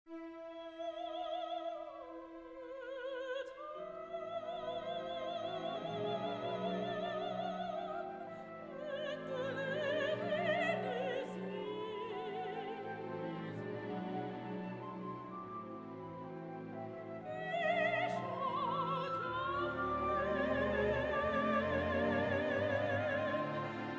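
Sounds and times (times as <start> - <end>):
operatic singing with vibrato: 0.2 - 23.9
orchestral accompaniment: 4.0 - 23.9.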